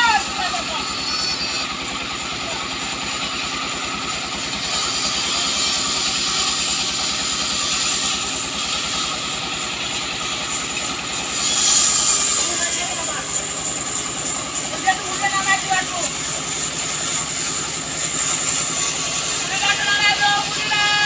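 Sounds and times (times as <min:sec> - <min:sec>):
constant machine hiss: 0:00.0 - 0:21.0
sawmill machinery pulsing: 0:00.0 - 0:21.0.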